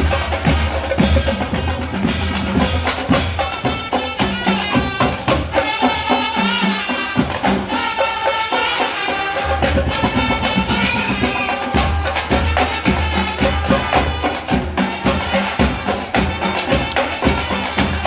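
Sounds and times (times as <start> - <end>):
marching band drums: 0.0 - 18.0.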